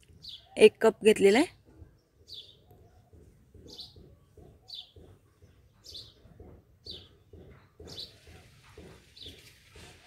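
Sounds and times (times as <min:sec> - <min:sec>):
bird chirping: 0:00.0 - 0:00.8, 0:01.5 - 0:10.0.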